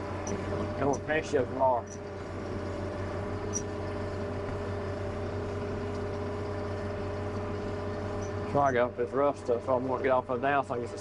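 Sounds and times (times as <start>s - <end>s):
tractor and baler humming: 0.0s - 11.0s.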